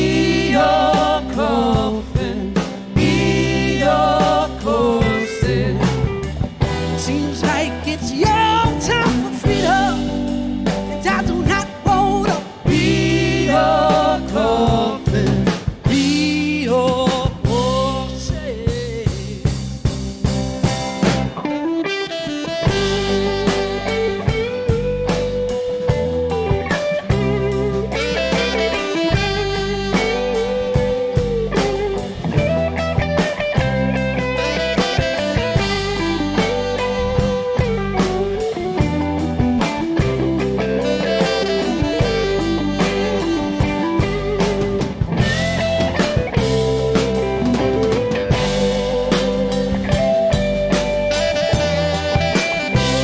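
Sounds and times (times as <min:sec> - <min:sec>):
lead guitar bending notes: 0:00.0 - 0:16.1, 0:20.6 - 0:53.0
drum kit hits: 0:00.0 - 0:18.0, 0:18.6 - 0:21.4, 0:22.7 - 0:53.0
steady bass: 0:00.0 - 0:21.5, 0:22.6 - 0:53.0.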